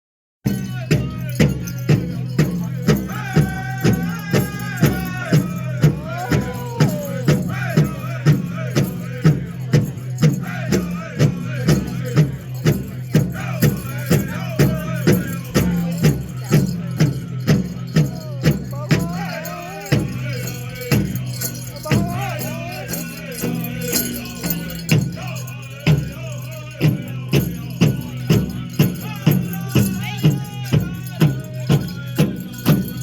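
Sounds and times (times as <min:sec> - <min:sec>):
big drum beating: 0:00.5 - 0:33.0
group singing: 0:02.8 - 0:33.0.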